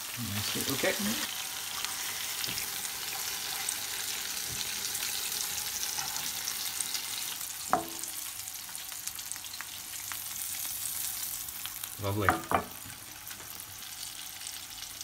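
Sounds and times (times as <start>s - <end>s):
mushrooms sizzling in frying pan: 0.0s - 15.0s.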